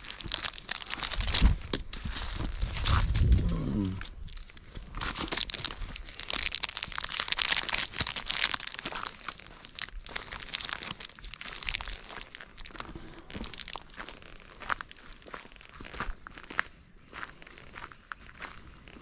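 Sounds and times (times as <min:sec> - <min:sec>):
footsteps crunching on trail: 0:00.0 - 0:19.0.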